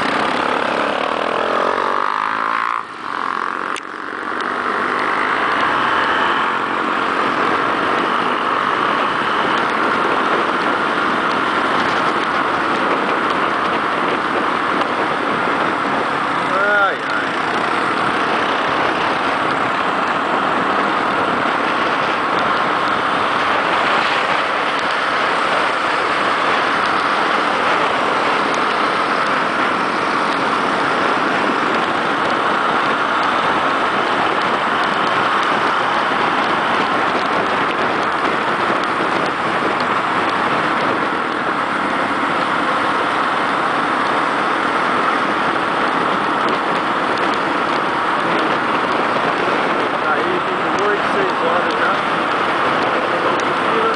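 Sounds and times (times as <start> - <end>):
motorcycle road noise: 0.0 - 53.9
wind rushing over microphone: 0.0 - 53.9.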